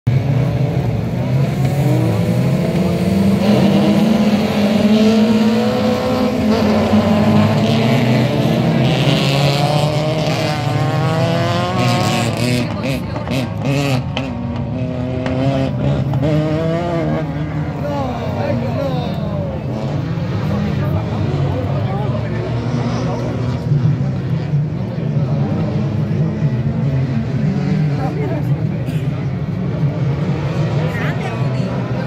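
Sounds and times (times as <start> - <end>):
race car engines revving: 0.1 - 32.0.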